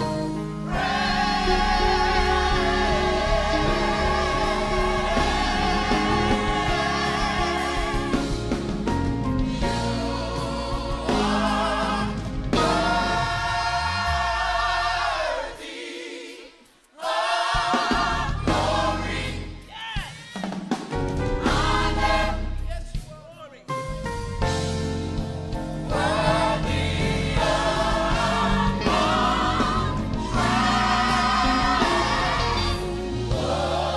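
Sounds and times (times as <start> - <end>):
gospel choir singing: 0.0 - 19.8, 20.4 - 22.9, 25.8 - 33.9.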